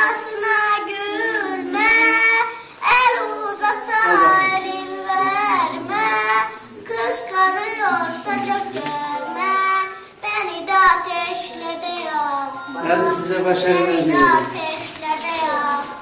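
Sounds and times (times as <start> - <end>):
children singing folk song: 0.0 - 16.0.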